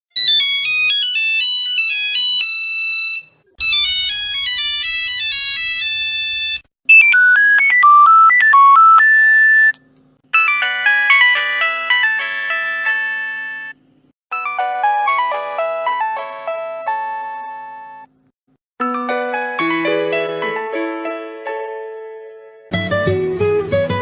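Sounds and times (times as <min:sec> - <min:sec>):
phone ringtone melodies: 0:00.2 - 0:09.7, 0:10.3 - 0:18.1, 0:18.8 - 0:21.1.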